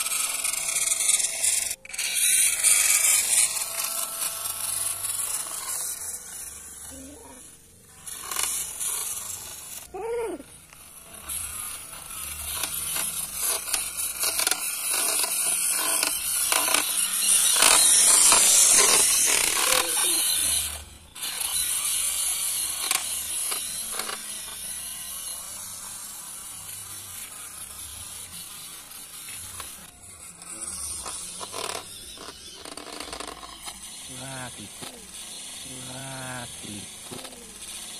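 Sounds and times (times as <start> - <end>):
toy truck motor whirring: 0.0 - 37.9
wheels clicking on grit: 0.0 - 37.9.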